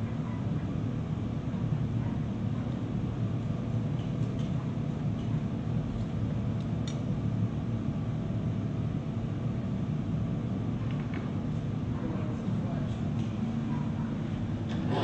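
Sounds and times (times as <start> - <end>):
furnace burner roar: 0.0 - 15.0.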